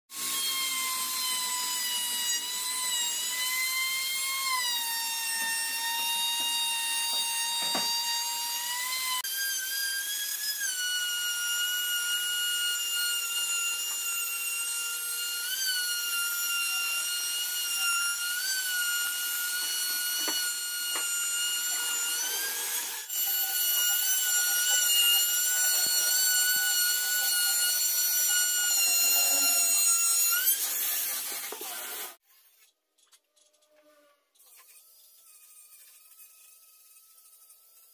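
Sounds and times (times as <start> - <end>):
router cutting wood: 0.1 - 32.2.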